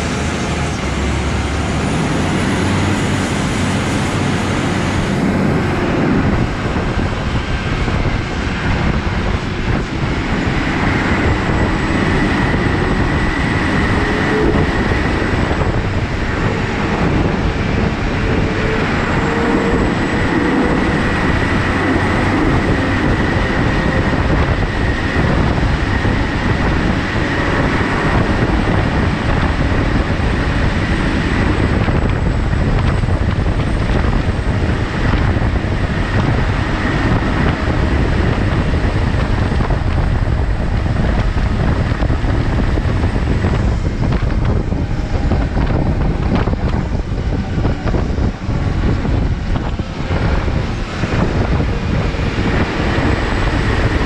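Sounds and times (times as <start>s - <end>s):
tracks rumbling: 0.0s - 54.0s
tractor engine running: 0.0s - 54.0s.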